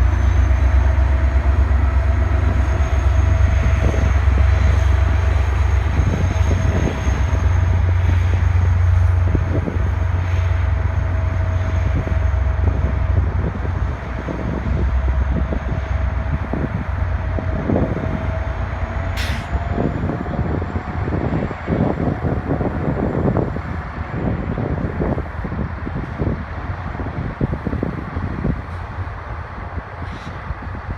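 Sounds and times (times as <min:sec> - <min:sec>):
passenger train rolling past: 0:00.0 - 0:30.9.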